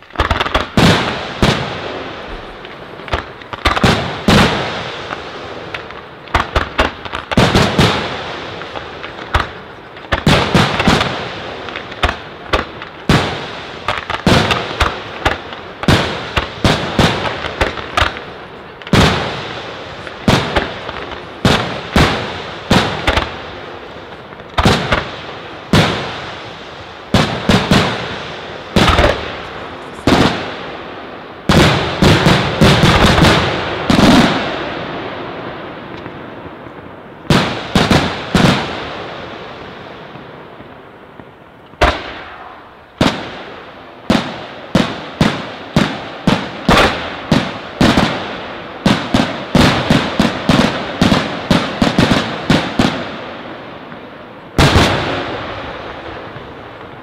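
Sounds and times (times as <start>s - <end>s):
fireworks bursting with bangs: 0.0s - 57.0s
fireworks crackling: 0.0s - 57.0s.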